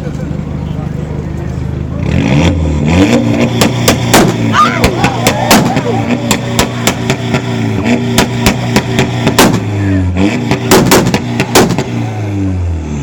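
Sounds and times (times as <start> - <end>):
exhaust pops and backfires: 1.4 - 12.4
car engine revving: 1.4 - 13.0.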